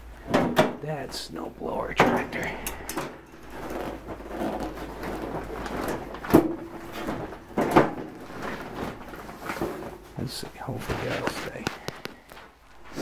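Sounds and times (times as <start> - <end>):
objects shuffling and scraping: 0.2 - 13.0.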